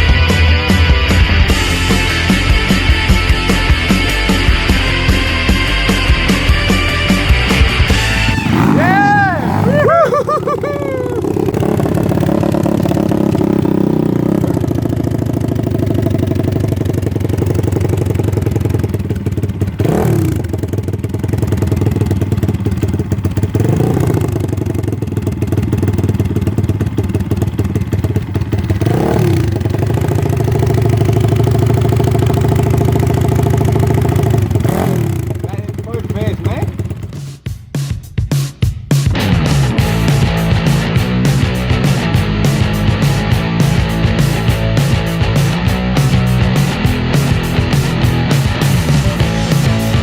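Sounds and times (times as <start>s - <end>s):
motorcycle engine revving: 0.0s - 37.5s, 39.0s - 50.0s.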